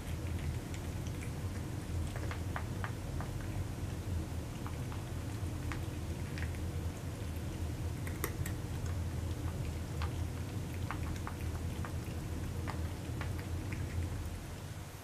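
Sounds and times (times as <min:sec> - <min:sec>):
cats chewing meat: 0:00.0 - 0:15.0
steady low hum: 0:00.0 - 0:15.0.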